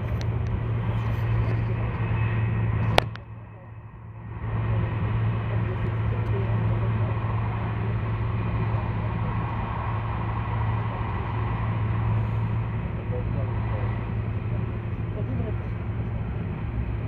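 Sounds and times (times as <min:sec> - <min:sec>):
constant low hum: 0:00.0 - 0:17.0
train rushing rumble: 0:00.0 - 0:17.0.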